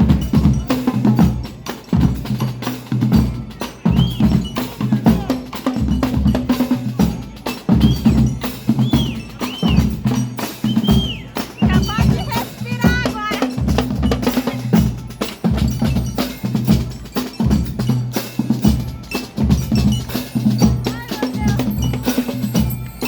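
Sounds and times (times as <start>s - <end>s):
bass and snare drum cadence: 0.0s - 23.0s.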